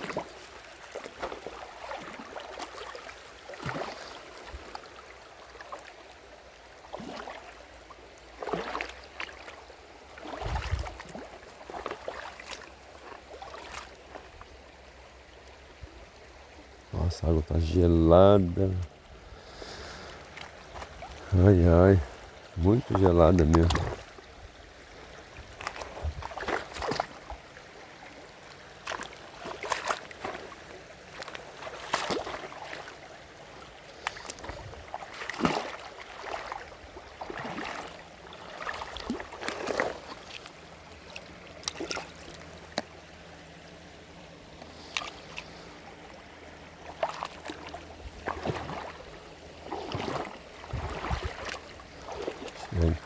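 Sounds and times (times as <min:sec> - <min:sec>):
faint flowing water: 0:00.0 - 0:53.0
water sloshing and splashing: 0:00.0 - 0:53.0.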